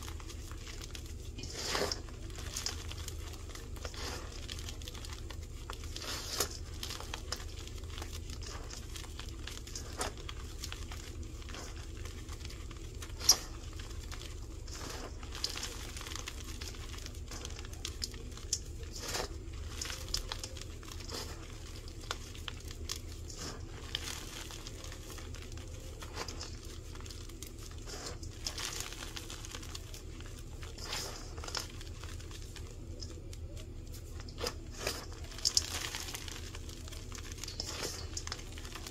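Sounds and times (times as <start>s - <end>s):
baking soda crunching and crackling: 0.0s - 38.9s
low steady hum: 0.0s - 38.9s.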